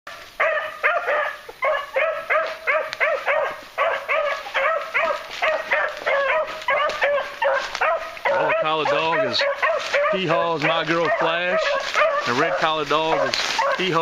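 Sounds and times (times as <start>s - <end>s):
hounds baying: 0.1s - 14.0s.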